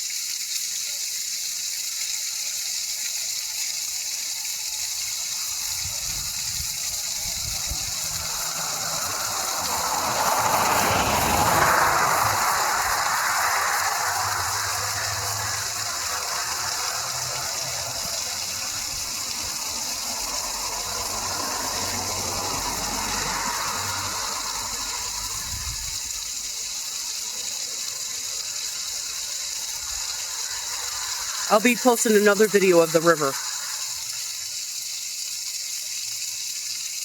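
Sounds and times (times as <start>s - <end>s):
waterfall rushing: 4.6s - 34.6s
road traffic passing: 4.6s - 34.7s.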